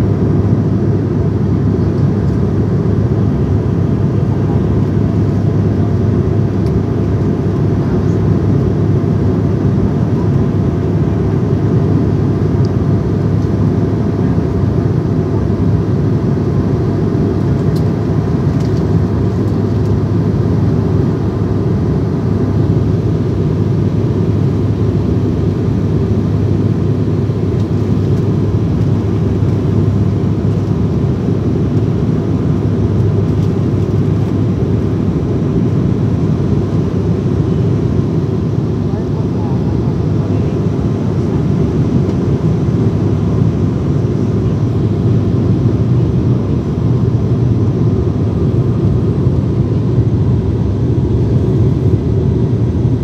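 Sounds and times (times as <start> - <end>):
airliner engine drone: 0.0 - 53.0.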